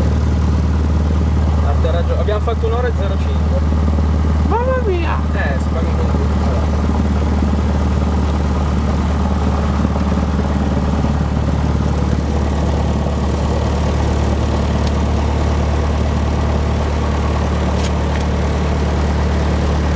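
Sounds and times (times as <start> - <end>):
small plane engine and propeller: 0.0 - 19.9.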